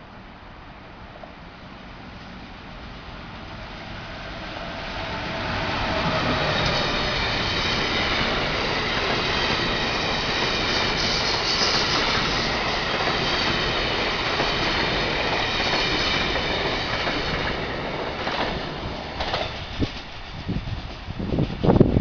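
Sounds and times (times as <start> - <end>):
train wheels rumbling on rails: 1.1 - 22.0.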